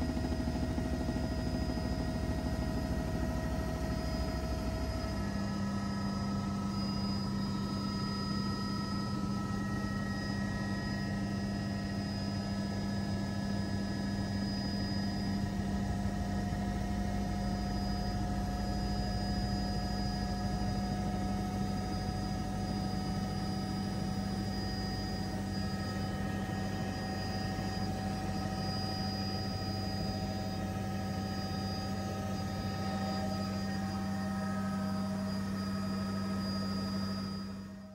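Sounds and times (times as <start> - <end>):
faint high whine: 0.0 - 37.9
helicopter rotor and engine drone: 0.0 - 37.9.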